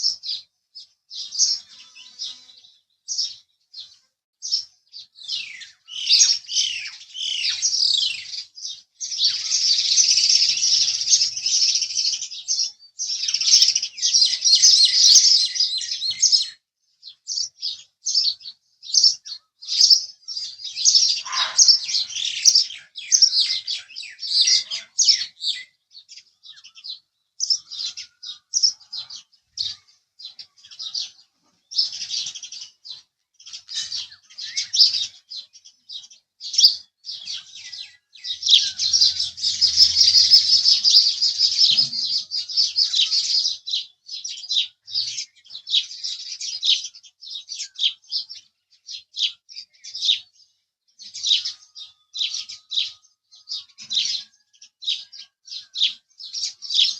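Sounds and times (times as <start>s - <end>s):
sparrows chirping: 0.0s - 56.9s.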